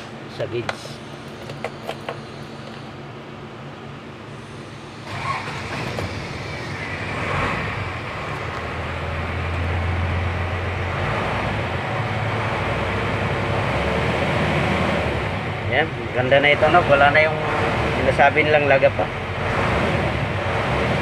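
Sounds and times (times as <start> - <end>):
diesel truck engine starting and running: 0.0 - 21.0.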